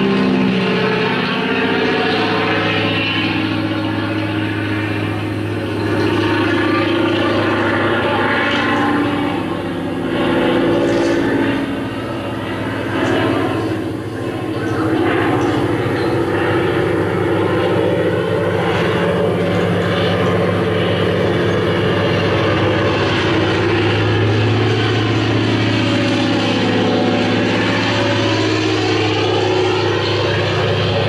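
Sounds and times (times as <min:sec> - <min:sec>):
propeller aircraft engine humming: 0:00.0 - 0:31.0.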